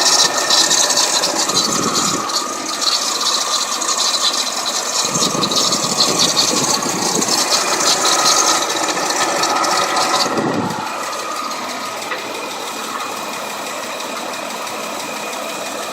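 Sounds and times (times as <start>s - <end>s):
car engine running steadily: 0.0s - 15.9s
engine fast metallic rattle: 0.0s - 15.9s.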